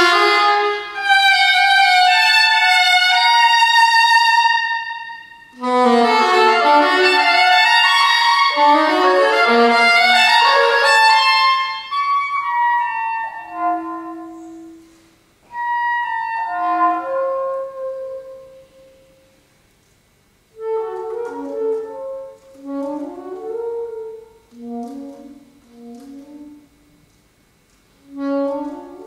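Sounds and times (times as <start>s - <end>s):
solo saxophone: 0.0s - 19.4s, 20.5s - 27.2s, 27.9s - 29.0s.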